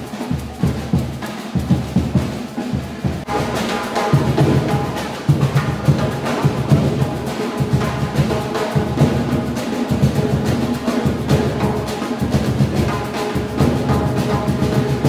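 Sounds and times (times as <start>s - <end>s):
samba percussion band: 0.0s - 15.0s.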